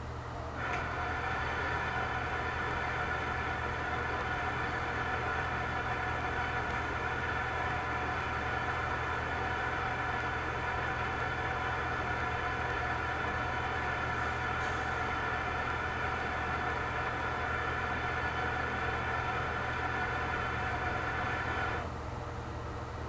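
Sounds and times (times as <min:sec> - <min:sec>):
machine whirring hum: 0:00.0 - 0:23.0.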